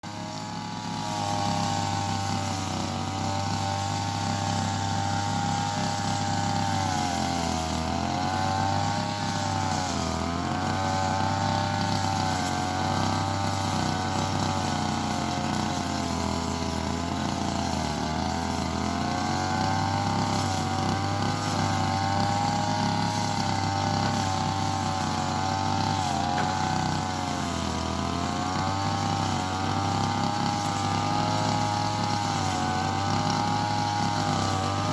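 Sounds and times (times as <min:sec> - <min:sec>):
brush cutter engine running: 0:00.0 - 0:34.9.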